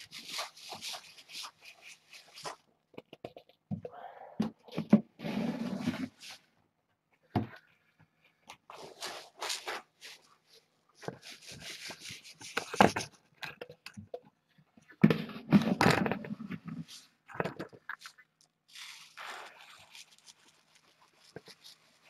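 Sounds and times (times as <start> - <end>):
handling scraping and knocks: 0.0 - 18.5.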